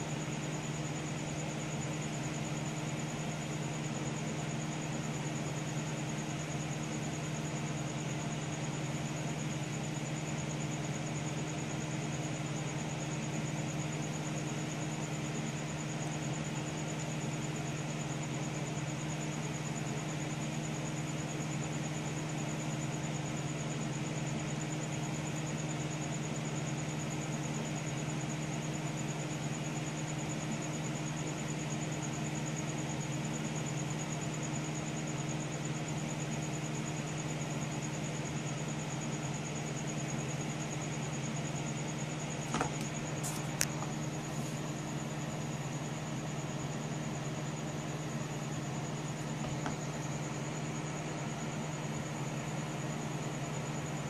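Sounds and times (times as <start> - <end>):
computer fans whirring: 0.0 - 54.0.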